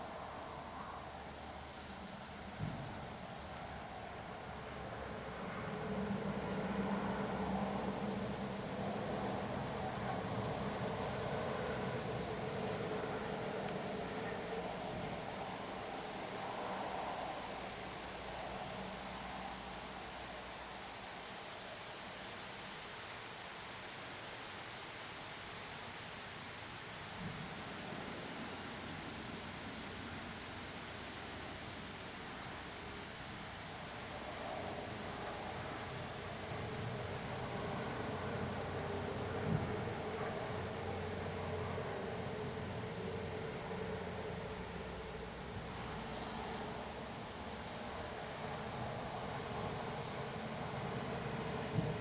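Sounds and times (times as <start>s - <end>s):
steady rain falling: 1.2s - 52.0s.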